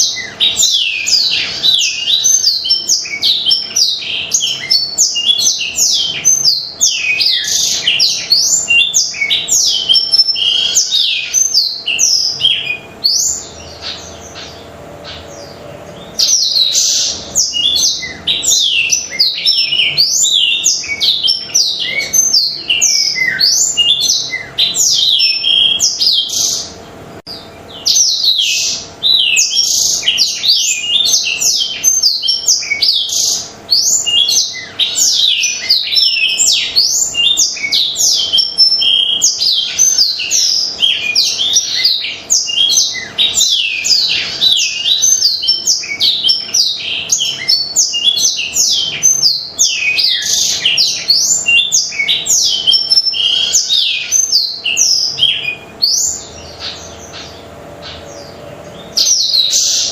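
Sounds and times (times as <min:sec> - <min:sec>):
canary singing high twittering notes: 0:00.0 - 0:59.9.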